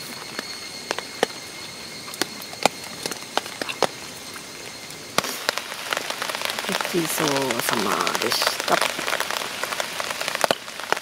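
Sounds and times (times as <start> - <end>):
rain hiss: 0.0 - 11.0
raindrops ticking on tarp: 0.0 - 11.0.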